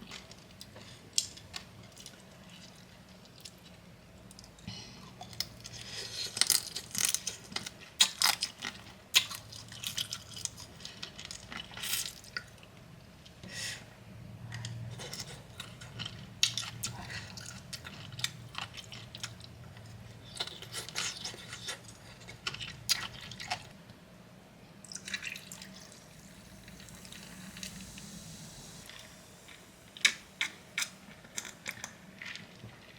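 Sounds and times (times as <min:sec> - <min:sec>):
faint low hum: 0:00.0 - 0:32.9.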